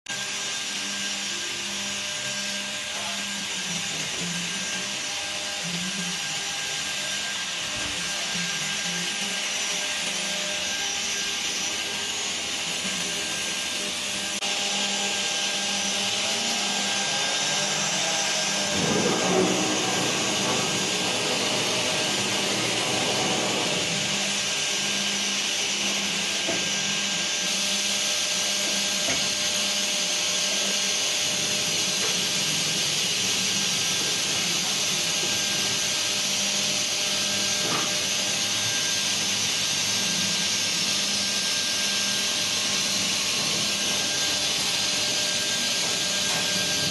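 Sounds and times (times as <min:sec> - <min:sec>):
wood router whining: 0:00.1 - 0:46.9.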